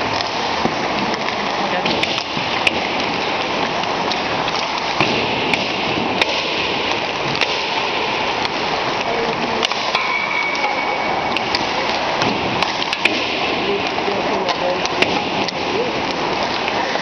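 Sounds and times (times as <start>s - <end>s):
pucks clacking off sticks and boards: 0.0s - 17.0s.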